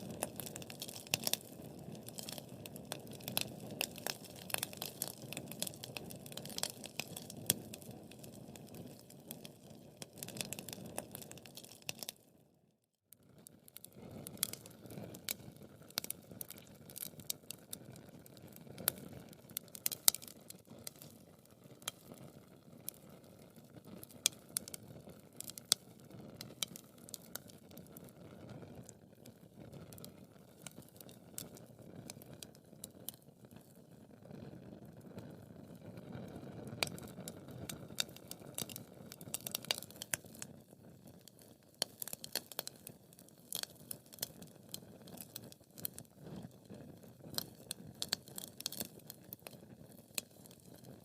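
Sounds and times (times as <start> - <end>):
wood fire crackling: 0.0 - 12.2, 13.4 - 51.0.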